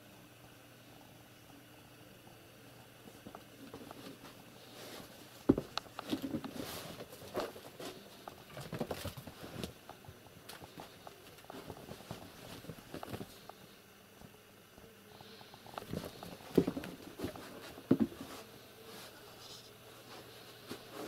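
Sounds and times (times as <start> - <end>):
cats playing: 1.6 - 21.0.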